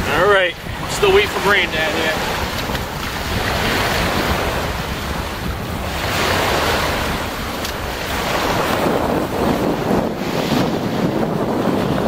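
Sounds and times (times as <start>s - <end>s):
small waves breaking on beach: 0.0s - 12.0s
wind buffeting microphone: 0.0s - 12.0s.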